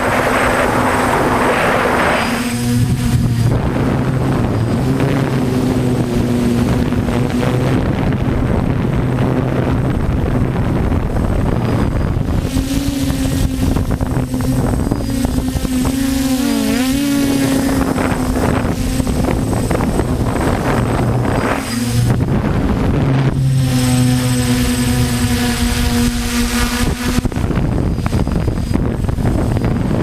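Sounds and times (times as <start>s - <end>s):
drone motors buzzing: 0.0s - 30.0s
wind buffeting microphone: 0.0s - 30.0s.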